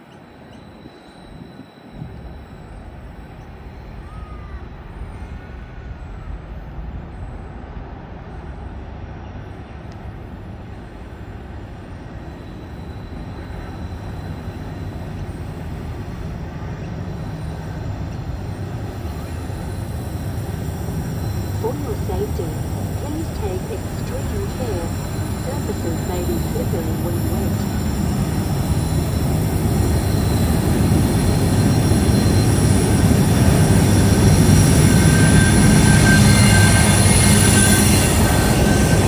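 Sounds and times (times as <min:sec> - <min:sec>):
distant diesel locomotives rumbling: 0:00.0 - 0:39.0.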